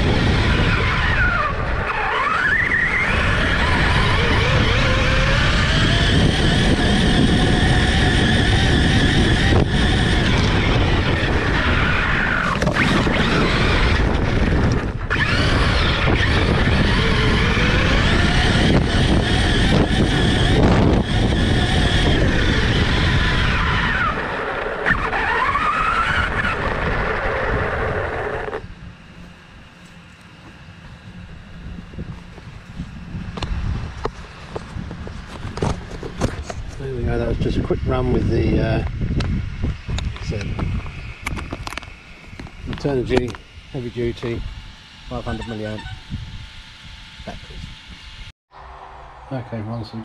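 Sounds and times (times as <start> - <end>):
wind noise: 0.0 - 48.3
electric motor whining: 0.0 - 49.4.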